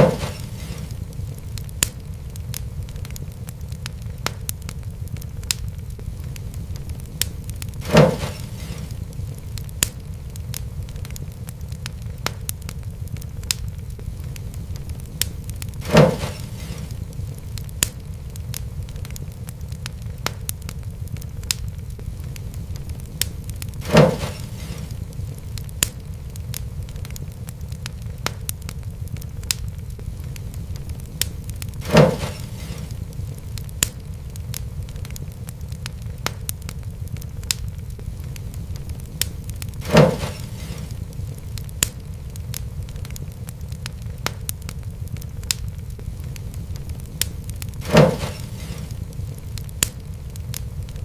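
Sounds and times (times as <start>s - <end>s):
low rumble of flames: 0.0s - 51.0s
wood fire crackling: 0.0s - 51.0s.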